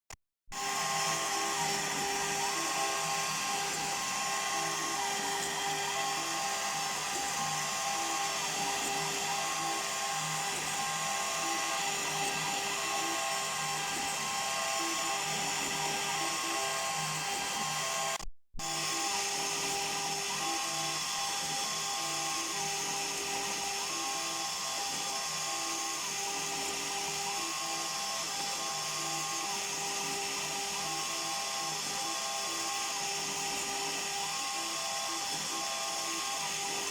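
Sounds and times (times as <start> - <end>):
cnc router spindle whine: 0.5 - 36.9.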